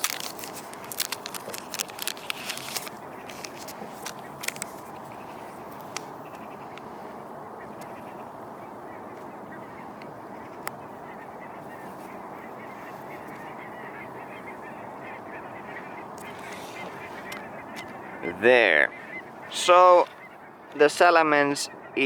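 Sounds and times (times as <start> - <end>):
distant birds calling: 0.0 - 22.0.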